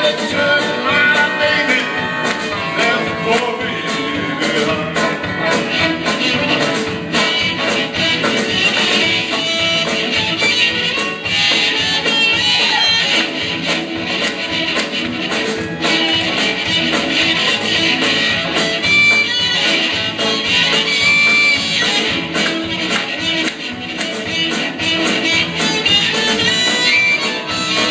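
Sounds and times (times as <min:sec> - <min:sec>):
drums keeping a steady beat: 0:00.0 - 0:27.9
electric guitars: 0:00.0 - 0:27.9.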